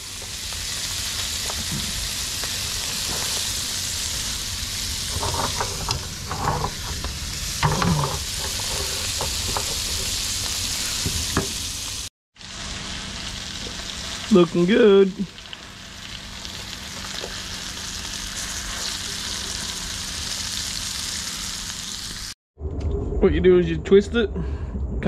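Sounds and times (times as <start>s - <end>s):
shellfish sizzling in a frying pan: 0.0s - 22.4s.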